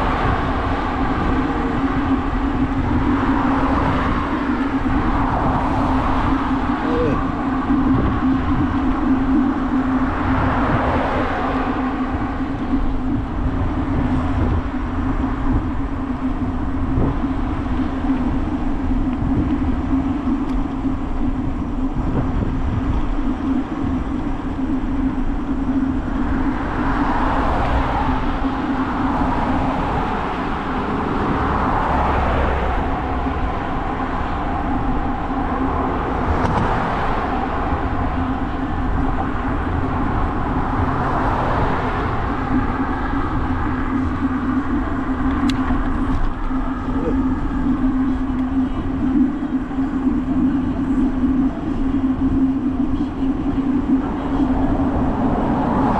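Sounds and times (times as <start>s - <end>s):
road traffic passing: 0.0s - 55.9s
steady hum: 0.0s - 55.9s
wind rumbling on microphone: 0.0s - 55.9s.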